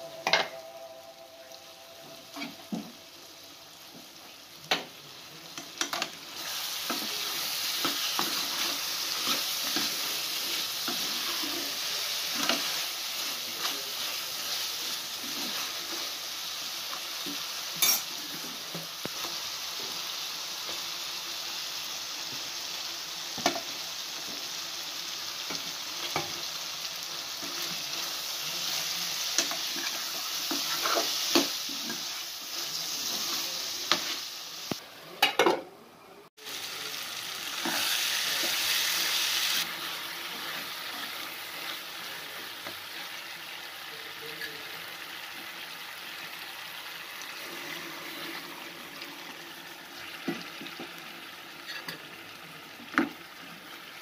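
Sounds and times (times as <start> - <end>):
curry sizzling in a pot: 0.0 - 35.3, 36.3 - 54.0.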